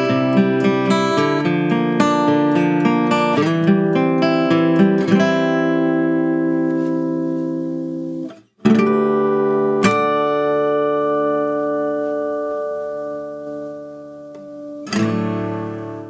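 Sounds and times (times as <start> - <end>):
acoustic guitar chord strummed: 0.0 - 16.0.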